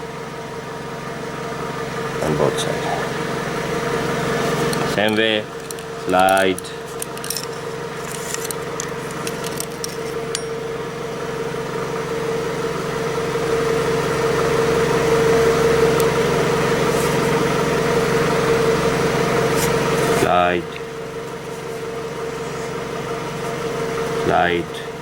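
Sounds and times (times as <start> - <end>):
engine humming: 1.5 - 25.0.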